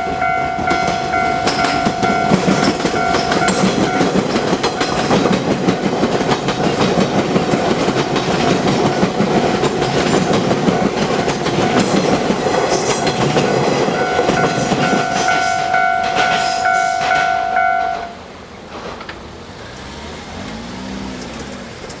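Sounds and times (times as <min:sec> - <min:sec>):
crossing warning bell: 0:00.0 - 0:18.3
train wheels clattering: 0:00.0 - 0:19.3.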